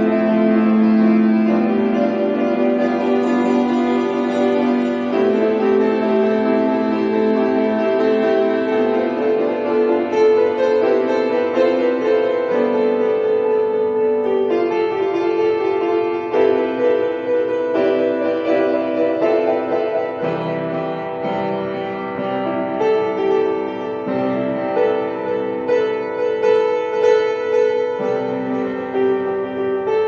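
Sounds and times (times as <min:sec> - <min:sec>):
solo piano chords: 0:00.0 - 0:30.0.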